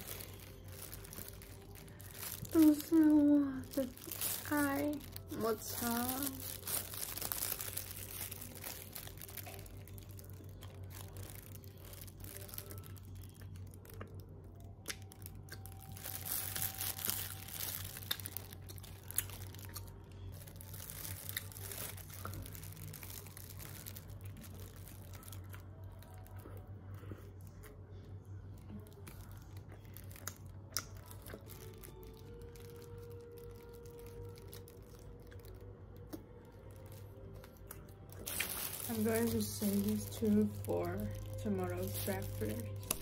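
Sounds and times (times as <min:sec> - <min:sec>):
plastic bag crinkling: 0:00.0 - 0:27.8, 0:28.6 - 0:43.0
pastry crust crunching: 0:00.0 - 0:43.0.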